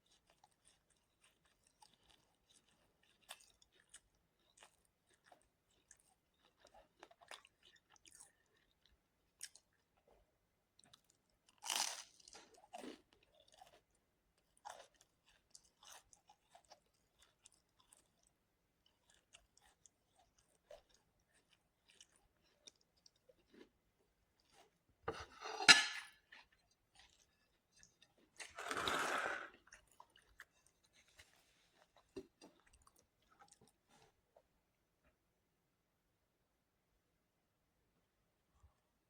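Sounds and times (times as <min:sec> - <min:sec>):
quiet chewing with mouth clicks: 0:00.0 - 0:25.5, 0:26.1 - 0:28.6, 0:29.4 - 0:35.2.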